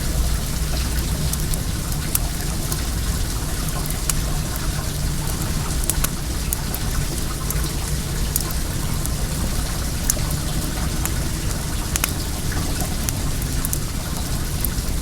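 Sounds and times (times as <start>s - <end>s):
water running and splashing: 0.0s - 15.0s
wood fire crackling: 0.0s - 15.0s.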